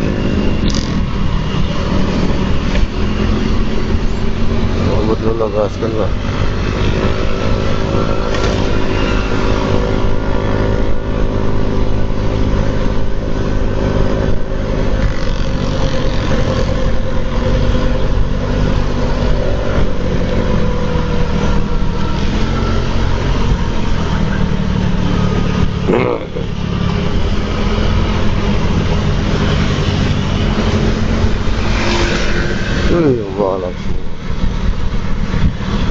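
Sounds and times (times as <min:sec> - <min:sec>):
motor scooter engine cruising: 0:00.0 - 0:35.9
road noise: 0:00.0 - 0:35.9
wind noise on microphone: 0:06.1 - 0:26.0, 0:26.8 - 0:35.9.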